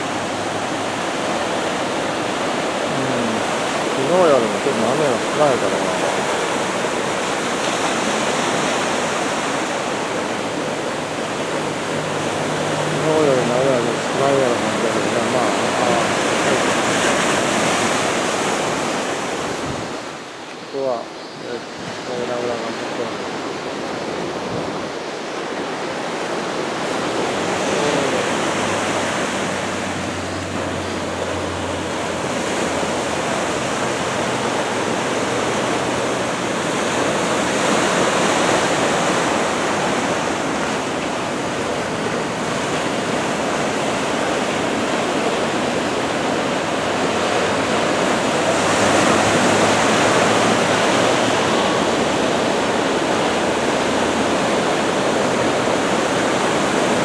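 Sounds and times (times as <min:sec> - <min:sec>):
ocean surf breaking on shore: 0:00.0 - 0:57.0.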